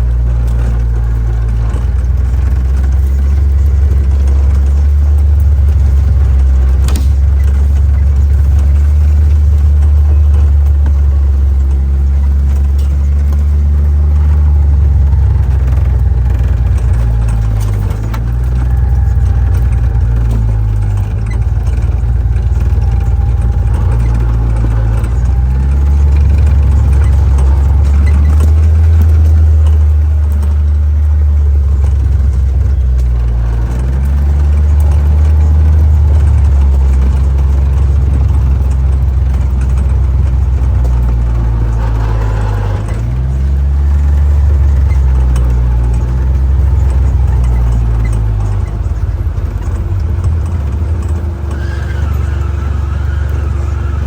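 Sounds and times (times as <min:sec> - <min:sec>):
utility vehicle engine driving: 0:00.0 - 0:54.0.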